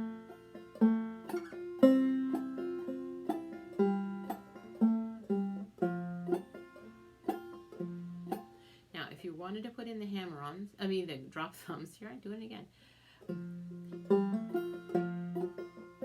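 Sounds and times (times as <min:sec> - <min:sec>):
banjo playing: 0:00.0 - 0:10.4, 0:13.1 - 0:16.0.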